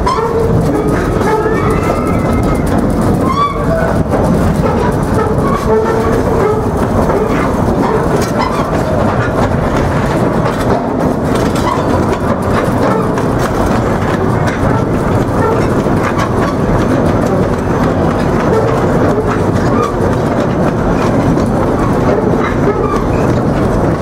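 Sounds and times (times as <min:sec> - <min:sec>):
steam train running on track: 0:00.0 - 0:24.0.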